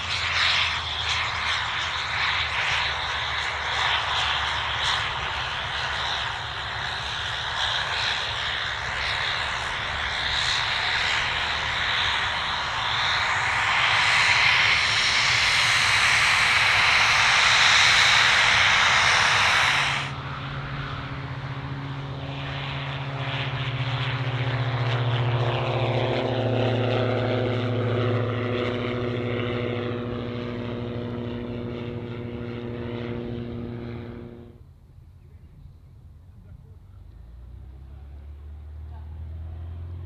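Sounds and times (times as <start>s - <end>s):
propeller aircraft passing close: 0.0s - 40.0s
propeller plane droning: 0.0s - 40.0s.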